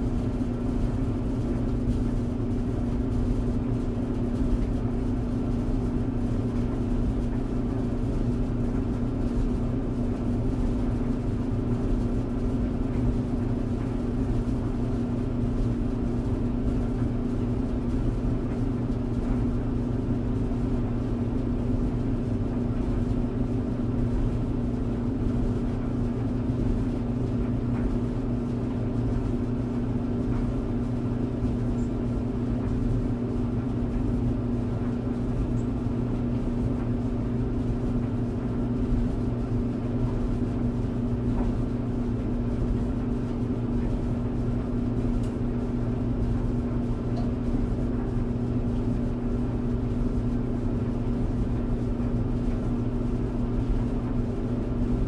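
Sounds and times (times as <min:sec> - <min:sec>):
tumble dryer running: 0:00.0 - 0:55.0.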